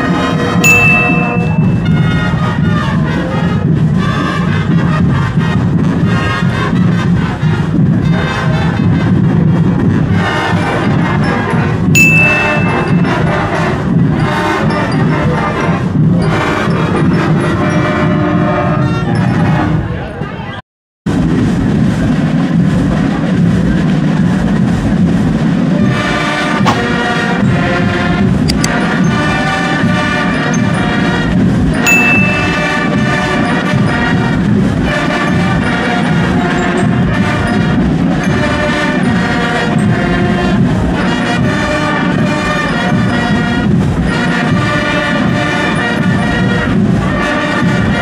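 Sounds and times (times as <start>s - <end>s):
drums in steady rhythm: 0.0s - 18.2s, 21.1s - 48.0s
marching band playing: 0.0s - 19.8s, 21.8s - 48.0s
brass instruments: 0.0s - 19.9s, 25.6s - 48.0s.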